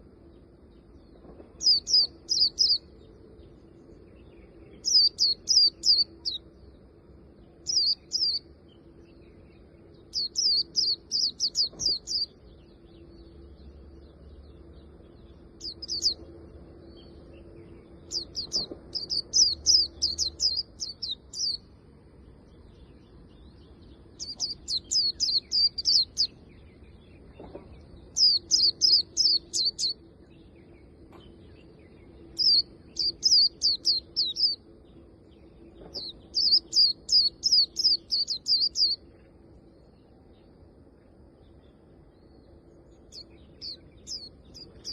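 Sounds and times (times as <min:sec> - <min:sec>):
bird twittering song: 0:00.0 - 0:44.9
faint low hum: 0:00.0 - 0:44.9.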